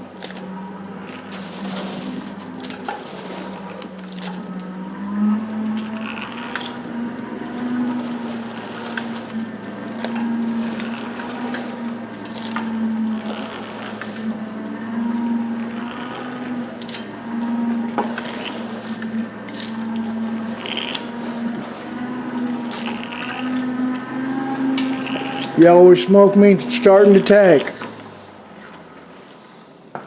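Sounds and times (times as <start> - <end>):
fire crackling and snapping: 0.0 - 25.6
hand-cranked forge blower hum: 0.0 - 30.0.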